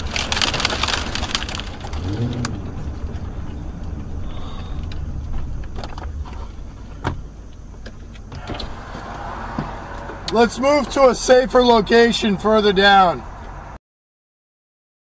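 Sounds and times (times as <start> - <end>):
car engine rumble: 0.0 - 13.8.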